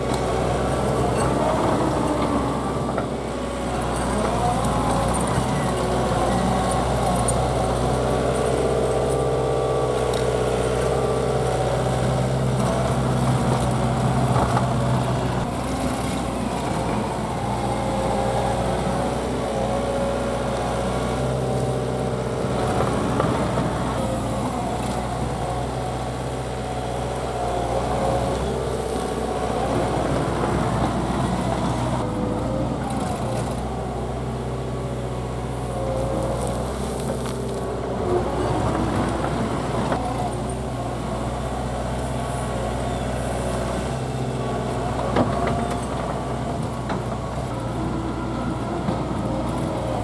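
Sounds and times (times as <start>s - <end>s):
track loader diesel engine: 0.0s - 50.0s.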